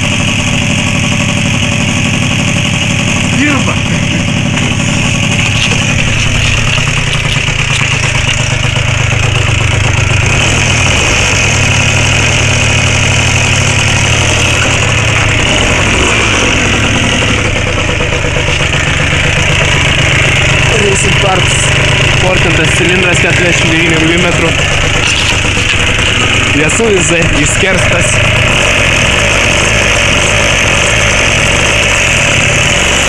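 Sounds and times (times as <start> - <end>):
scooter engine idling: 0.0 - 33.0.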